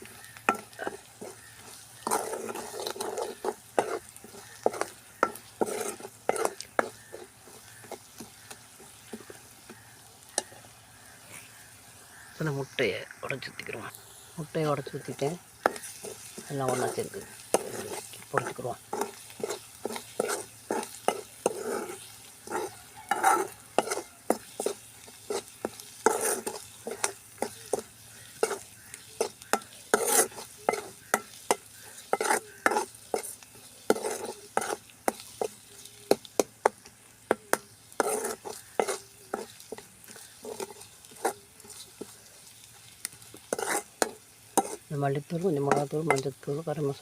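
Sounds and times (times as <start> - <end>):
spatula scraping a pan: 0.0 - 12.4, 14.8 - 47.0
egg sizzling in oil: 0.0 - 47.0.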